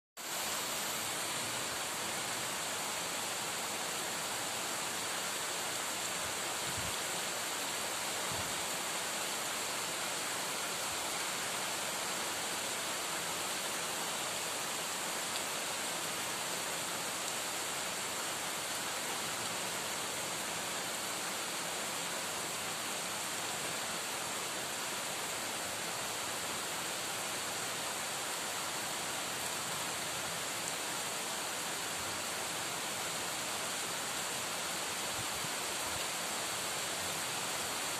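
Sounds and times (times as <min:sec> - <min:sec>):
heavy rain: 0:00.2 - 0:37.9.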